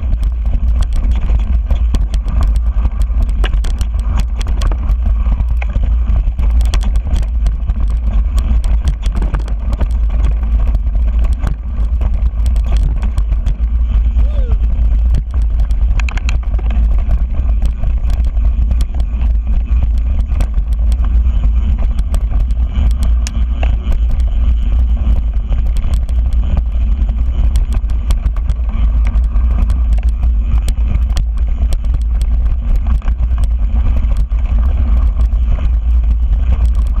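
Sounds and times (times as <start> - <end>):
bike clicks and rattles: 0.0 - 37.0
wind and ground rumble: 0.0 - 37.0.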